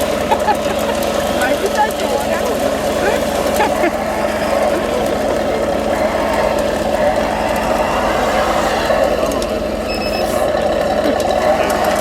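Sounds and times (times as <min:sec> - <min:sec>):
toy vehicle motors humming: 0:00.0 - 0:12.0.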